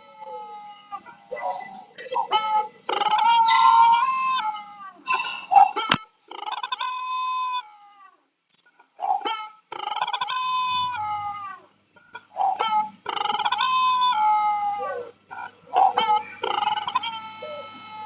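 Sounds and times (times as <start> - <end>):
bird long drawn-out calls: 0.0 - 8.2, 8.8 - 18.0.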